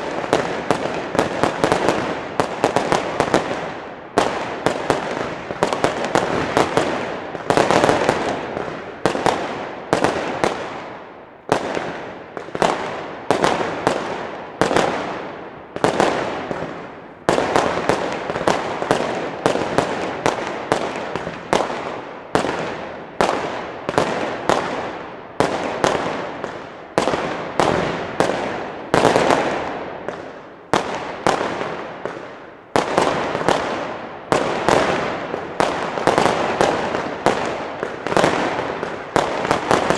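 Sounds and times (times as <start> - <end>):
fireworks banging with echo: 0.0 - 39.9.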